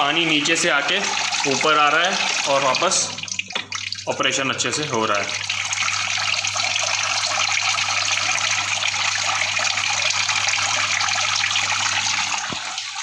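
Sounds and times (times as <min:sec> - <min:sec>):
water splashing trickle: 0:00.0 - 0:13.0
low pump hum: 0:01.0 - 0:13.0.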